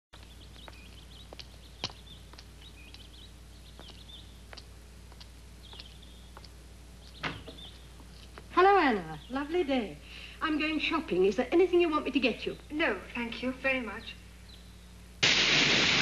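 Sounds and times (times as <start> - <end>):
birds chirping: 0.2 - 15.1
steady low hum: 0.2 - 16.0.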